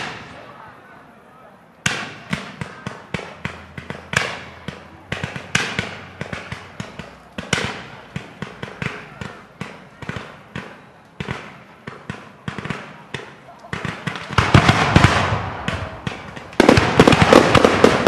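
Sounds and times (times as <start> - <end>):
fireworks bursting with sharp bangs: 0.0 - 0.6, 1.8 - 18.0.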